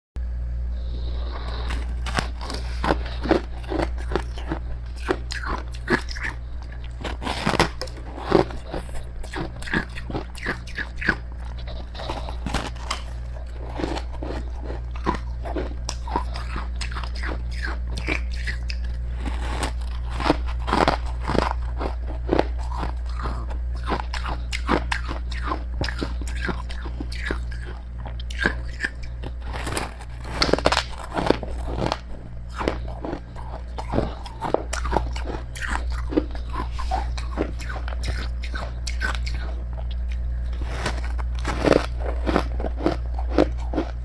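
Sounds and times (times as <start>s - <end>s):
steady low hum: 0.2s - 44.0s
crunching ice while chewing: 1.0s - 44.0s.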